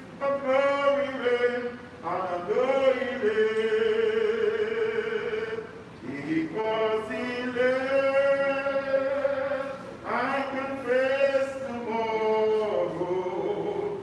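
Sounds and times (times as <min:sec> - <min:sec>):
man singing a hymn: 0:00.0 - 0:14.0.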